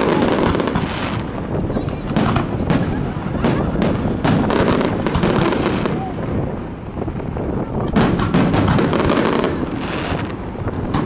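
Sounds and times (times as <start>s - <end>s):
firework shells bursting: 0.0s - 6.0s, 7.9s - 11.0s.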